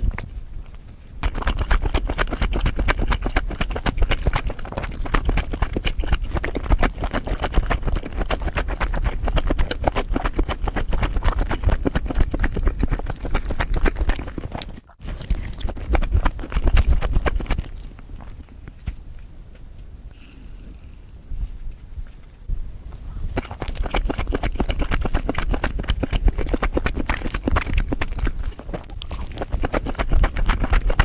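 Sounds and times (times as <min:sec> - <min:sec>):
chewing and crunching food: 0:00.0 - 0:19.3, 0:22.9 - 0:31.0.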